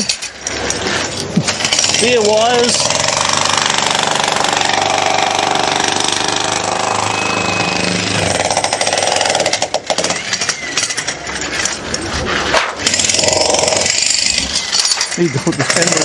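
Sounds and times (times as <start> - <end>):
jackhammer breaking concrete: 1.5 - 11.2, 12.8 - 16.0.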